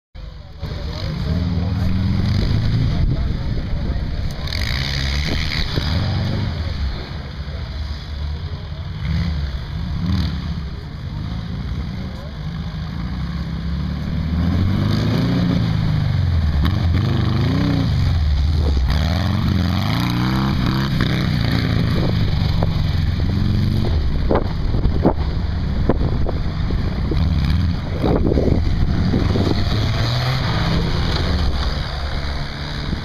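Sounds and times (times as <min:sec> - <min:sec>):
buggy engines revving: 0:00.2 - 0:33.0.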